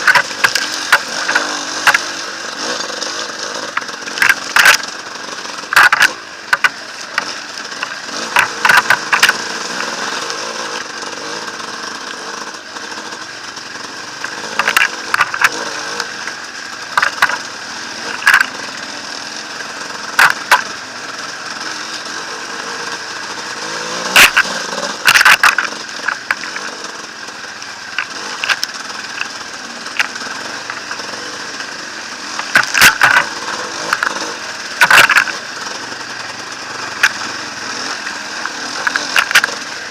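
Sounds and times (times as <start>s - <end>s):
dirt bike engine running: 0.0s - 39.9s
sharp clatters and knocks: 0.0s - 39.9s.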